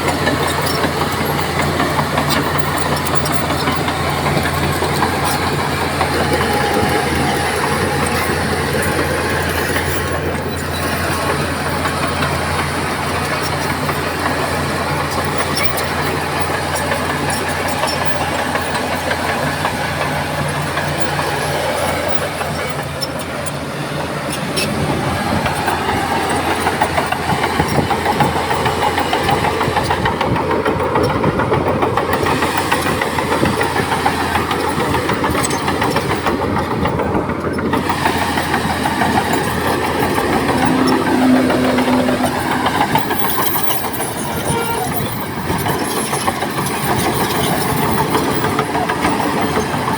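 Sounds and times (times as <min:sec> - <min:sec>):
diesel machinery engine running: 0:00.0 - 0:49.9.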